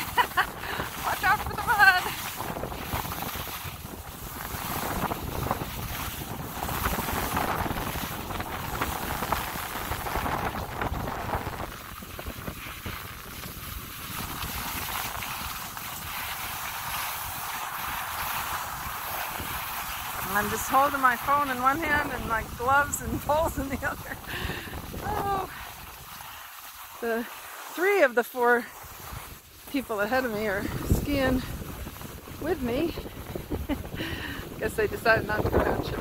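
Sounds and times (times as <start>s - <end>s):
wind on microphone: 0.0s - 26.4s, 28.4s - 36.0s
skis scraping over snow: 0.0s - 36.0s.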